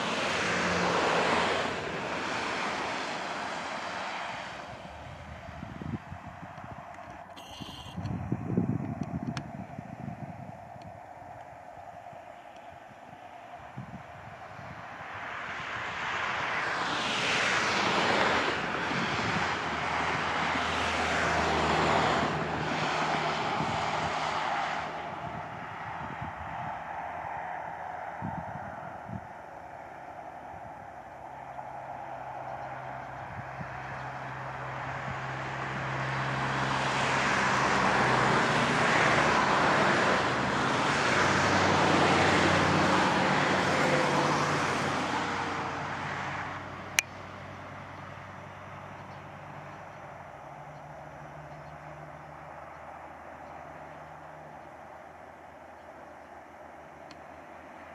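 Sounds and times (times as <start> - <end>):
broad rushing noise: 0.0 - 47.2
diesel railcar engine hum: 0.0 - 57.9.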